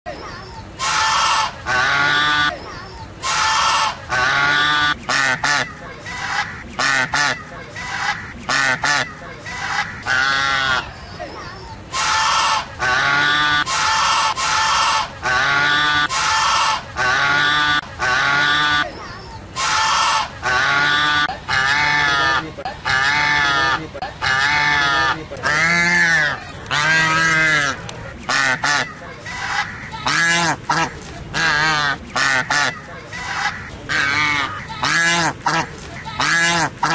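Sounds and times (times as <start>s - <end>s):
goose honking: 0.8s - 2.5s, 3.2s - 10.9s, 11.9s - 18.9s, 19.6s - 36.9s.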